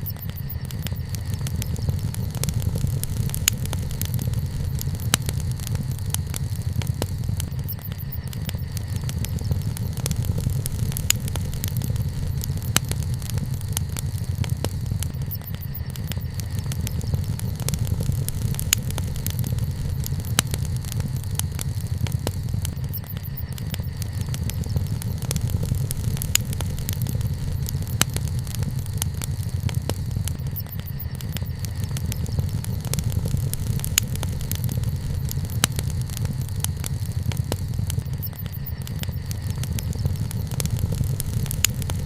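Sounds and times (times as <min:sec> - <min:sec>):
low rumble: 0:00.0 - 0:42.0
sharp pops from fire: 0:00.0 - 0:42.0
wood bonfire crackling: 0:00.0 - 0:42.0.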